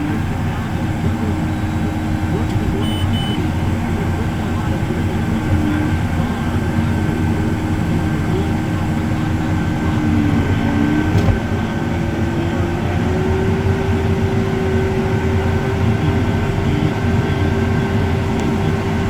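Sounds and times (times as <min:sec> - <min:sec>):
farm machinery whining drone: 0:00.0 - 0:19.0.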